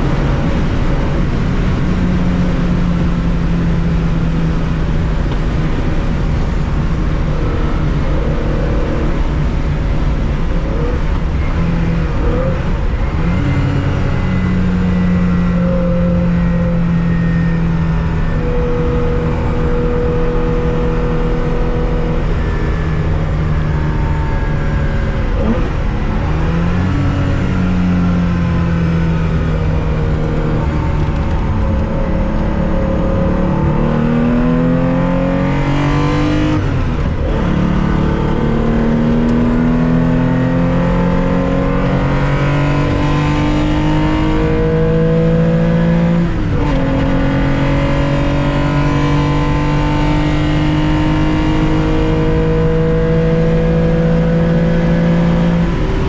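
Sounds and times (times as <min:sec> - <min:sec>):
car engine at high revs: 0:00.0 - 0:56.0.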